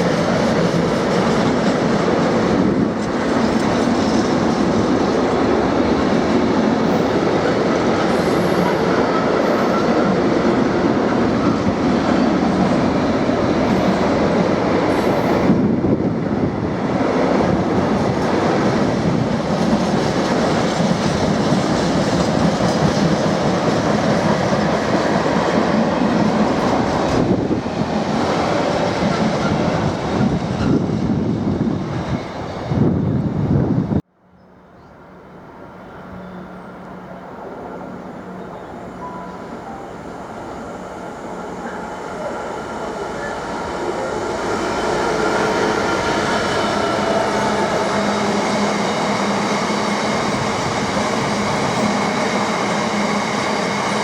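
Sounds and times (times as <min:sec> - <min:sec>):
train wheels rumbling on track: 0:00.0 - 0:34.0, 0:35.1 - 0:54.0.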